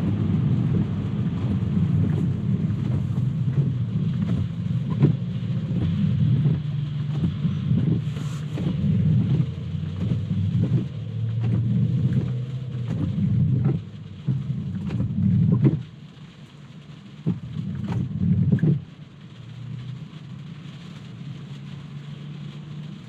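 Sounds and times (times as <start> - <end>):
rain drumming on car roof: 0.0 - 23.0
sharp rain taps: 0.0 - 23.0.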